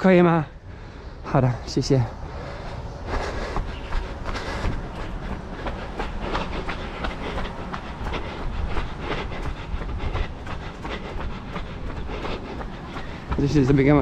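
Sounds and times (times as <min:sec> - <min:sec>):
running footsteps on pavement: 0:00.0 - 0:14.0.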